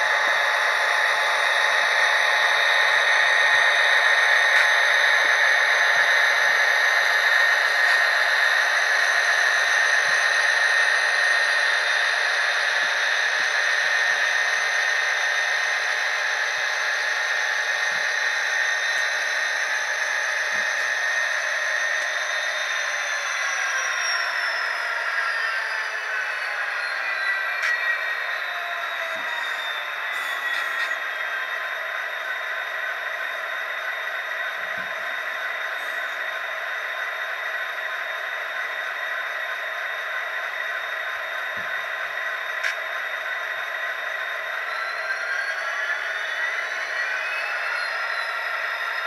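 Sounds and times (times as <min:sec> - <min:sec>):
model train engine drone: 0:00.0 - 0:49.0.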